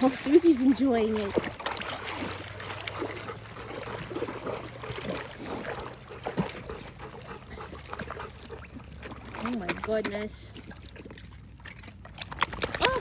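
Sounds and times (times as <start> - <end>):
dog wading in water: 0.0 - 13.0
water trickling and splashing: 0.0 - 13.0.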